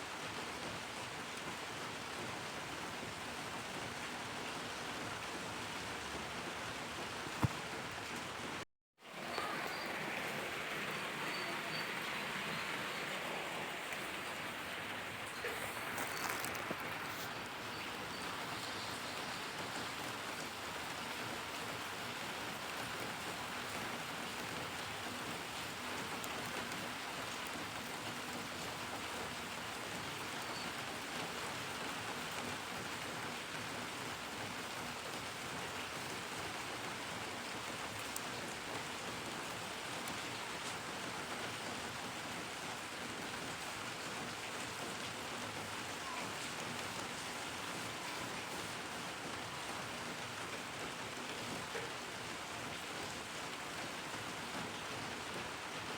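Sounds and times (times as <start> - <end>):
heavy rain downpour: 0.0 - 55.9.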